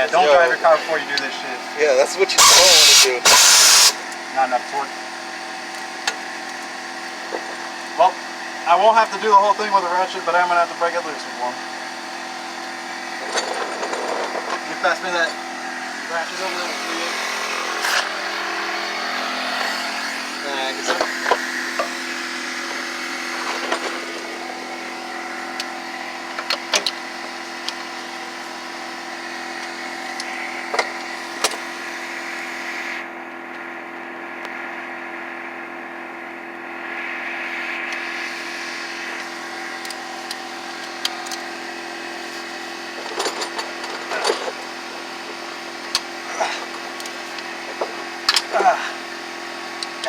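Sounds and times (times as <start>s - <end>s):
steady mechanical hum: 0.0s - 50.0s.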